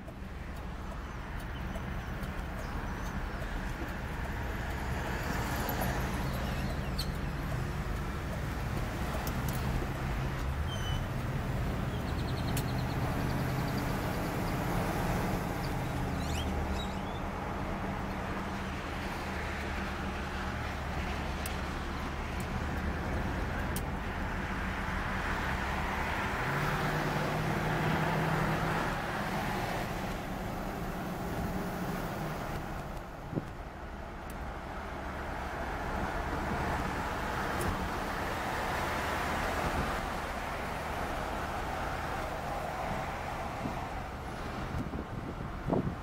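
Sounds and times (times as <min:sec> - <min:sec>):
road and wind noise: 0:00.0 - 0:46.0.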